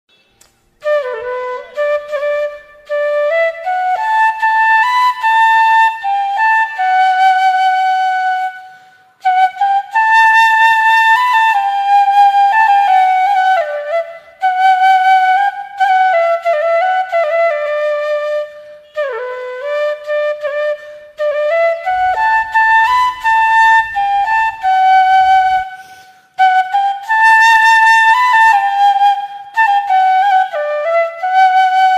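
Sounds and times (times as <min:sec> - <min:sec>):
bamboo flute melody: 0:00.1 - 0:31.9.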